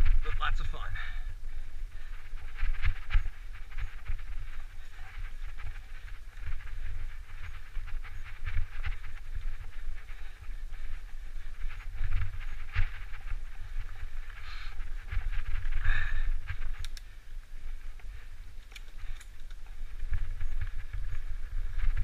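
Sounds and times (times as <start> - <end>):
bike rolling rumble: 0.0 - 22.0
bike clicks and rattles: 1.5 - 22.0.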